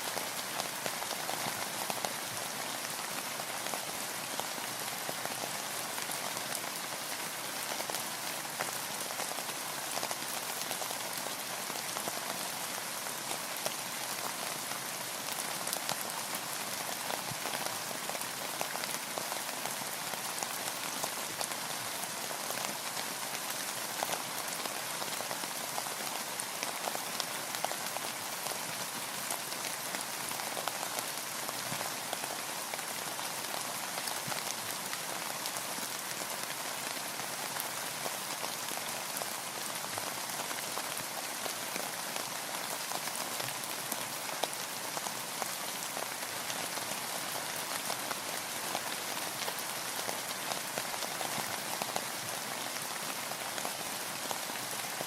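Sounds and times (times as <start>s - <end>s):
rain falling on a boat: 0.0s - 55.0s.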